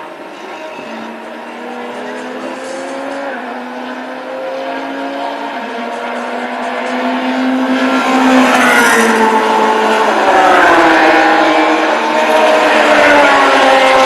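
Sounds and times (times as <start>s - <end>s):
racing engines revving: 0.0s - 14.0s.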